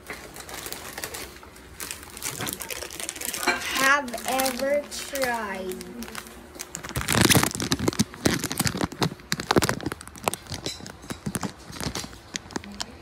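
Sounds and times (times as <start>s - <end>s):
plastic packet crinkling: 0.0s - 13.0s.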